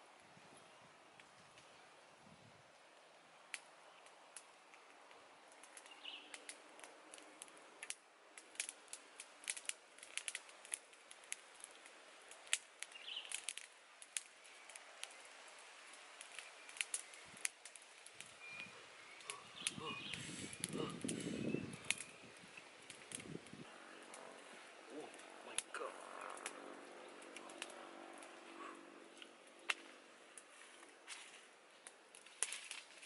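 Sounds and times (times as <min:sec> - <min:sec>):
wood fire crackling and popping: 0:02.8 - 0:33.0.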